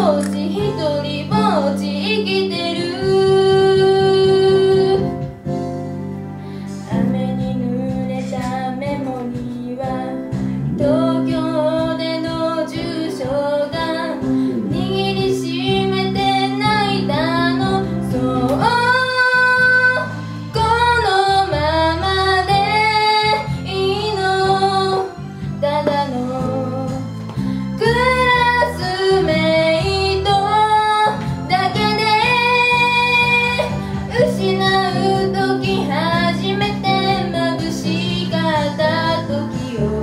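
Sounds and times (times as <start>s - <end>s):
woman singing pop song: 0.0s - 5.5s, 6.6s - 40.0s
instrumental accompaniment: 0.0s - 40.0s.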